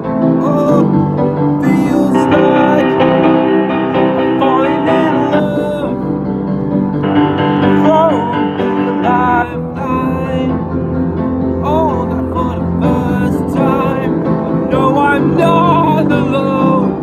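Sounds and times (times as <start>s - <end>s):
man singing pop ballad: 0.0s - 6.1s, 7.7s - 10.7s, 11.5s - 17.0s
keyboard chords: 0.0s - 17.0s.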